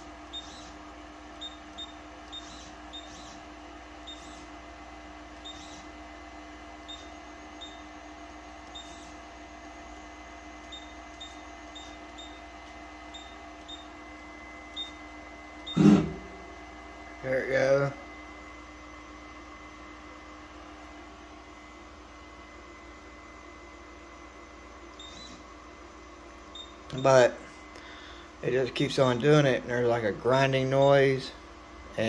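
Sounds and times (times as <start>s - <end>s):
printer humming: 0.0s - 32.0s.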